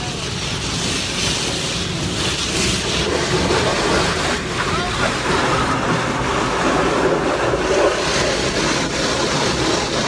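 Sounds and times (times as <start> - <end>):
car wash water spraying: 0.0 - 10.0.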